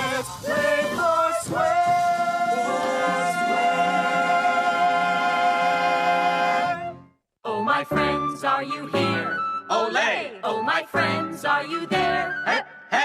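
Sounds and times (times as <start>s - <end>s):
voices singing a chord: 0.0s - 13.0s.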